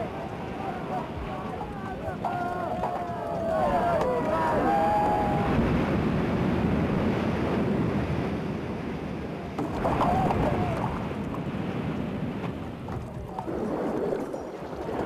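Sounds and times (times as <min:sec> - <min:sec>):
sea waves rushing: 0:00.0 - 0:15.0
wind: 0:00.0 - 0:15.0.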